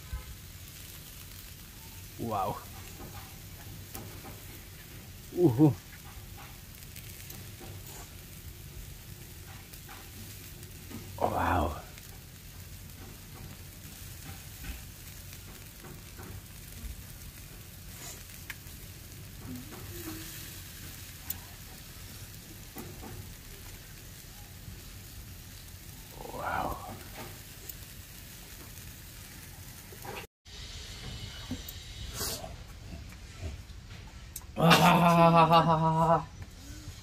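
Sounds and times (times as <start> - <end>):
charcoal crackles and pops: 0.0 - 36.8
meat sizzling on a grill: 0.0 - 37.0.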